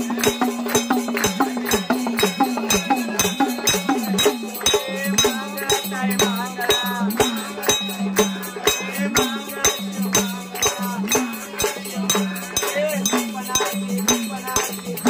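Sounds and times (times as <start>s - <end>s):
jingling hand percussion: 0.0s - 15.0s
rhythmic hand clapping: 0.0s - 15.0s
voices singing a hymn: 0.0s - 15.0s.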